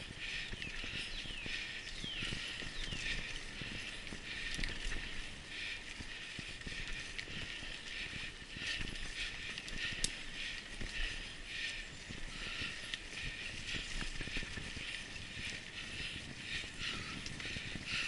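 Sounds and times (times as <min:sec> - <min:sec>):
mountain bike tyre and trail noise: 0:00.0 - 0:18.0
bike knocking and rattling: 0:00.1 - 0:18.0.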